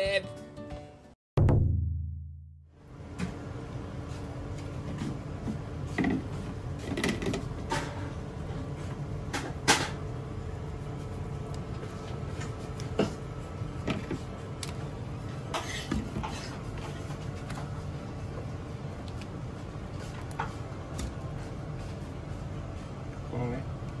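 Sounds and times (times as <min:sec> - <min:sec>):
steady low hum: 0:02.7 - 0:24.0.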